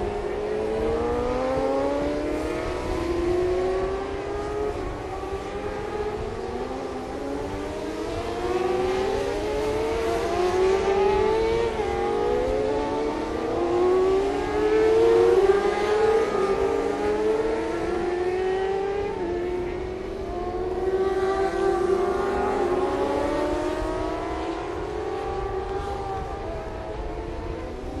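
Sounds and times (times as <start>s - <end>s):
racing motorcycles at high revs: 0.0s - 28.0s.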